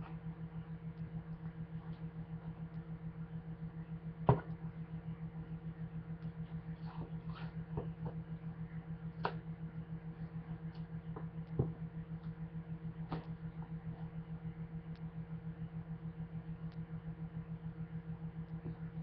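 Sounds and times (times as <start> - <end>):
pulsing low hum: 0.0 - 19.0.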